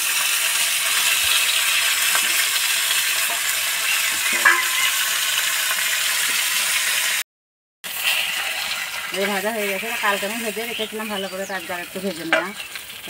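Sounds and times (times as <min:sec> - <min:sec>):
fish frying in hot oil: 0:00.0 - 0:07.2, 0:07.9 - 0:13.0.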